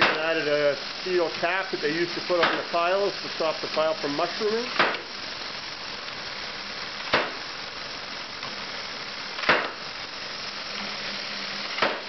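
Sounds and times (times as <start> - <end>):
steam engine hissing: 0.0 - 12.0.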